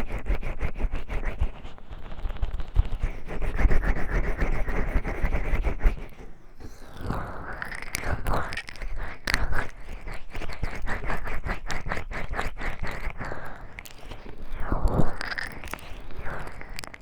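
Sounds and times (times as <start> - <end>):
oiled hands rubbing microphone: 0.0 - 17.0.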